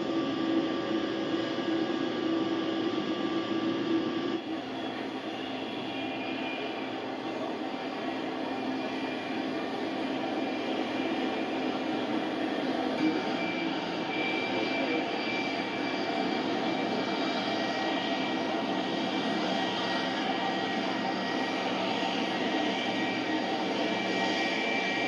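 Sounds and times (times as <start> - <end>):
jet engines running: 0.0 - 25.0
thin high whine: 0.0 - 25.0.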